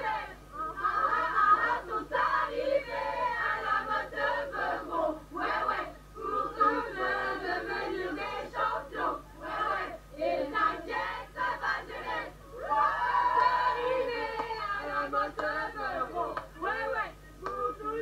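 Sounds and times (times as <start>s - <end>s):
many voices chanting together: 0.0s - 18.0s.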